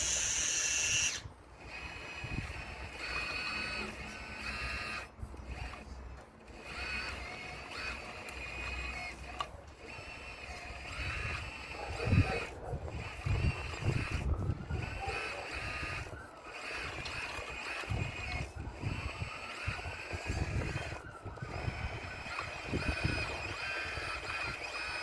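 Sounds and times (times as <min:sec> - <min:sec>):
model excavator motor whining: 0:00.0 - 0:25.0.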